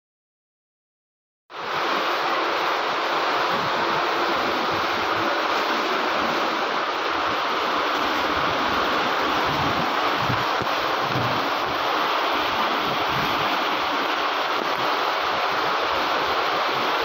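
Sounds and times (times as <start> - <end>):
floodwater rushing: 1.5 - 17.0.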